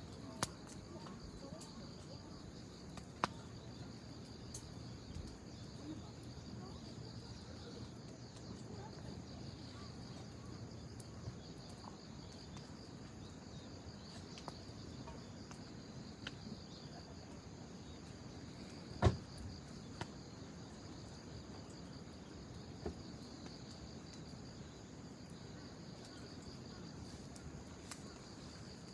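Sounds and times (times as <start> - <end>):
bonfire crackling and popping: 0.0 - 28.9
insects chirring: 0.0 - 28.9.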